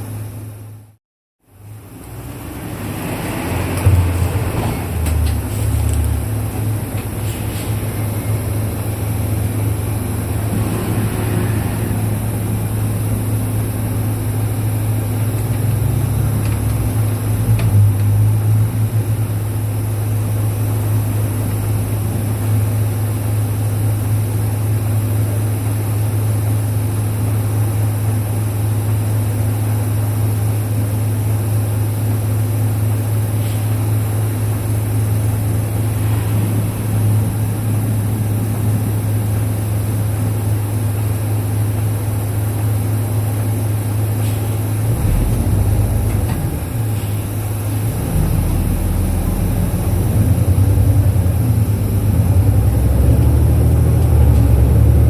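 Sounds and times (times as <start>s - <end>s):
bus diesel engine idling: 0.1s - 55.0s.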